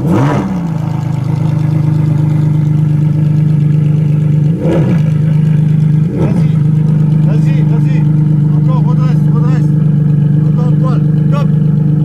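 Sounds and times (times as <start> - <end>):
car engine idling: 0.0 - 12.0
engine throttle blips: 0.0 - 12.0.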